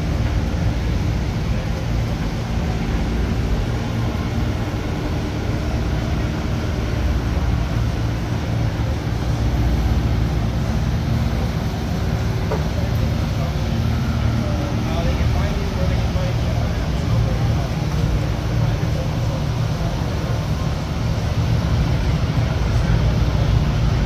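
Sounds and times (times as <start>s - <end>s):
constant hum: 0.0s - 24.0s
machinery rumble: 0.0s - 24.0s.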